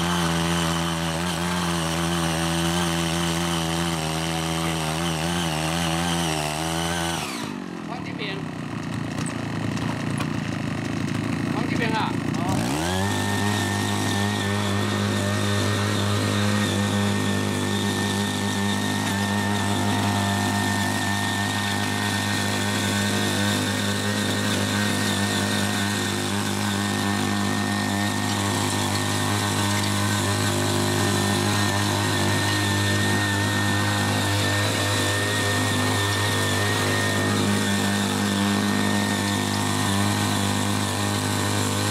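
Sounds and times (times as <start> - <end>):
small petrol engine running: 0.0 - 41.9
tiller blades tilling soil: 0.0 - 41.9.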